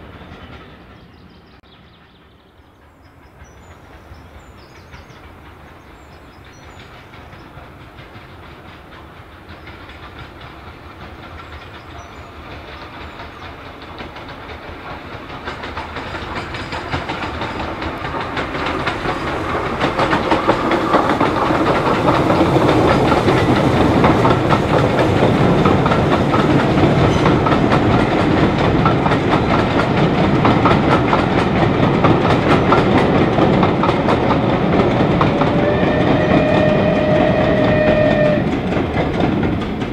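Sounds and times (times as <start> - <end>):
train rumbling and clattering on rails: 0.0 - 39.9.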